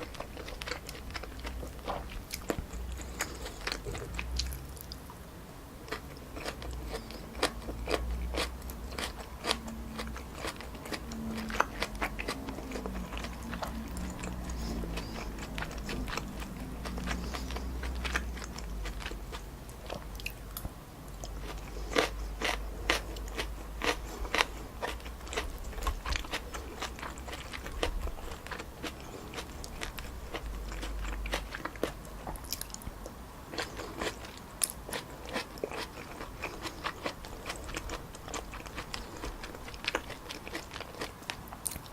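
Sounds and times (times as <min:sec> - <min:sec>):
chewing noodles: 0:00.0 - 0:05.0, 0:05.9 - 0:20.6, 0:21.2 - 0:41.9.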